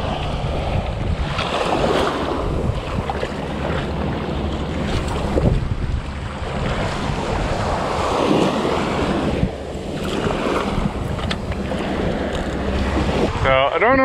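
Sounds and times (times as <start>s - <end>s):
small waves lapping: 0.0s - 14.0s
wind buffeting microphone: 0.0s - 14.0s.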